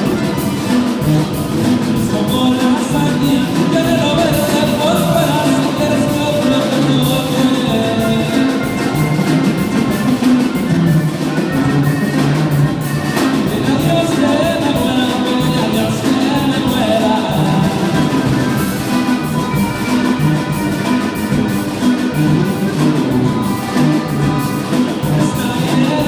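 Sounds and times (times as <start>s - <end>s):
regional band music: 0.0s - 26.0s.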